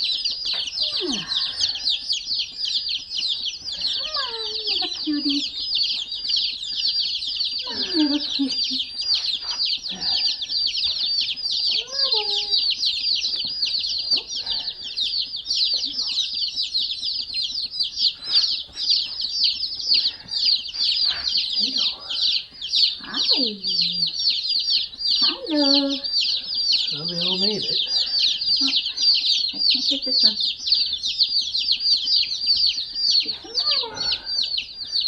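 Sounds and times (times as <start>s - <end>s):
baby chicks peeping: 0.0s - 35.0s.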